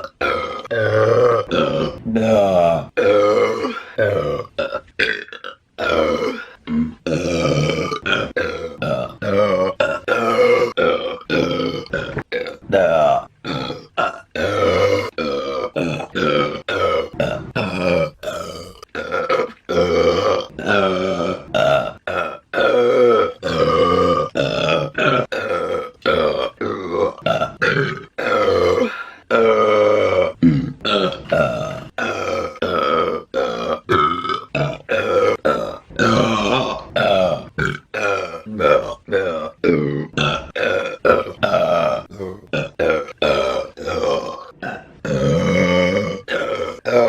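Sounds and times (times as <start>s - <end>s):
woman burping: 0.0s - 47.0s.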